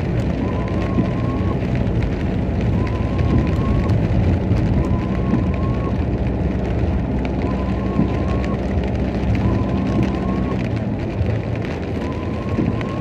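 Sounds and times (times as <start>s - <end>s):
car engine and road rumble: 0.0s - 13.0s
rain ticking on car: 0.0s - 13.0s.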